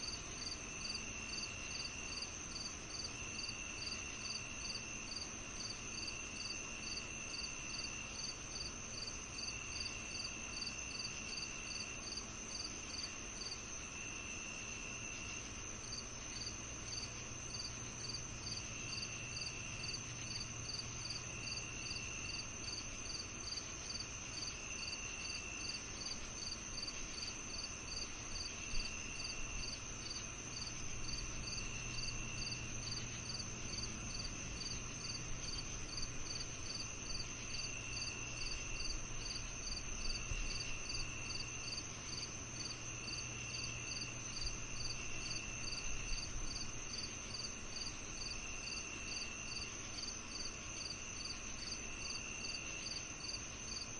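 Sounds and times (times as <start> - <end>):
cricket chirping: 0.0 - 53.9
faint low hum: 0.0 - 53.9
insect lower trill: 0.0 - 53.9.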